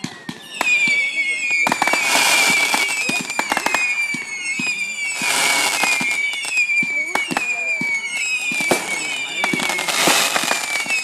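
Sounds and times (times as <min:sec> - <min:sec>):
falling firework whistles: 0:00.0 - 0:11.0
firework bangs and cracks: 0:00.0 - 0:11.0
firework crackling: 0:00.1 - 0:11.0.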